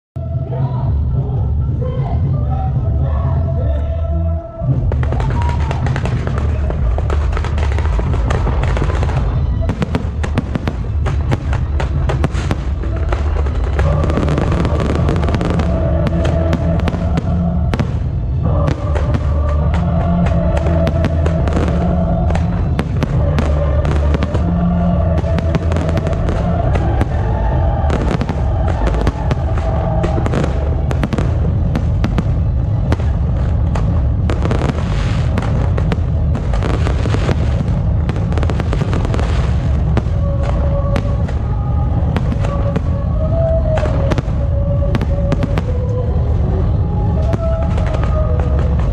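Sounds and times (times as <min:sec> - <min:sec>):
music playing: 0:00.2 - 0:48.9
fireworks cracking and banging: 0:04.8 - 0:48.9.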